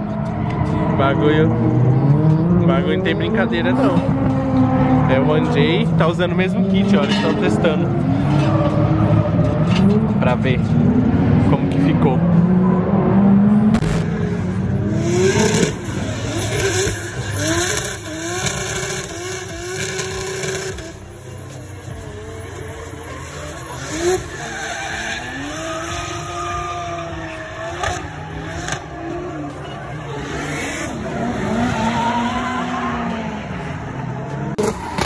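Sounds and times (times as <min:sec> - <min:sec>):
car engines revving: 0:00.0 - 0:35.0
tyres skidding and squealing: 0:00.0 - 0:35.0.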